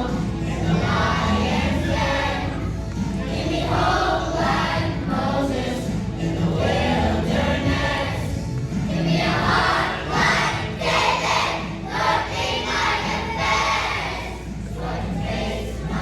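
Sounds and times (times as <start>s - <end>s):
children's choir singing: 0.0s - 16.0s
musical accompaniment: 0.0s - 16.0s.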